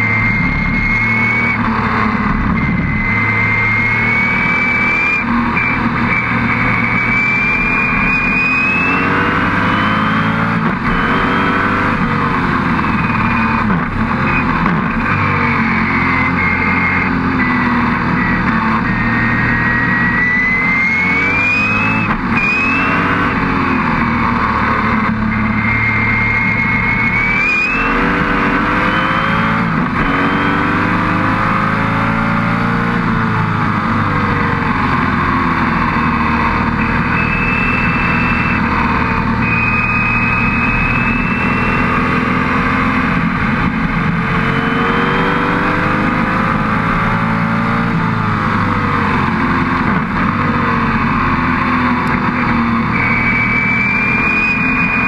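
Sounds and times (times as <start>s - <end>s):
racing engine at full throttle: 0.0s - 55.0s.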